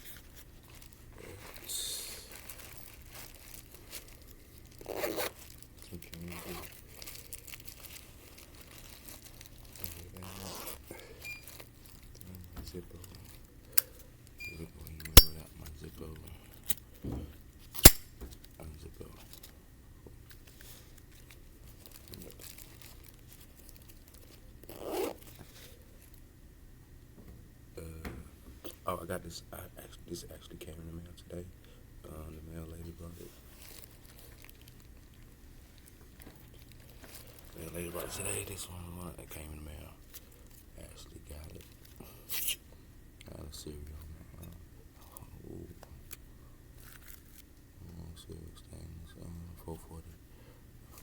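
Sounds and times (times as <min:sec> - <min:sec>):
crinkling rustling handling noise: 0:00.0 - 0:26.2, 0:32.1 - 0:42.3, 0:43.3 - 0:48.8.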